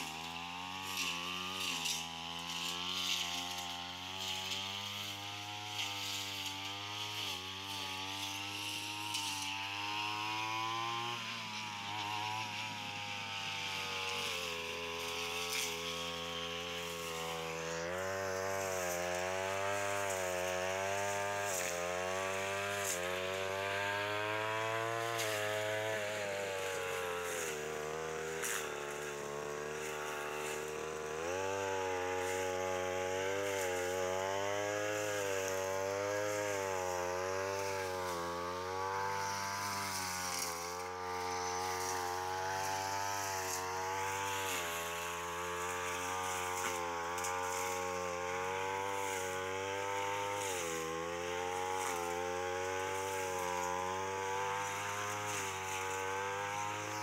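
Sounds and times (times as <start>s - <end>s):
brush cutter engine cutting grass: 0.0s - 57.0s.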